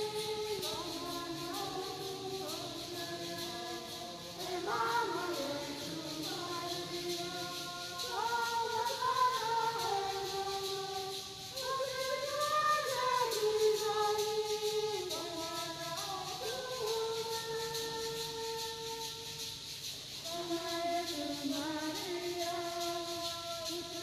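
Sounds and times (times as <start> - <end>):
hymn sung with accompaniment: 0.0 - 24.0.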